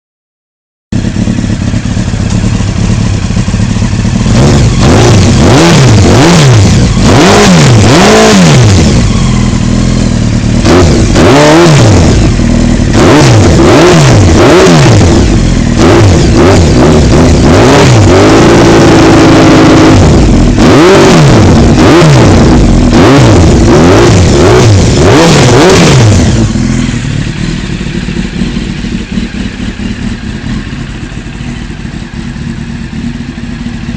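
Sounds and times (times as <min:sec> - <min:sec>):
motorcycle engine revving: 0:01.0 - 0:33.9.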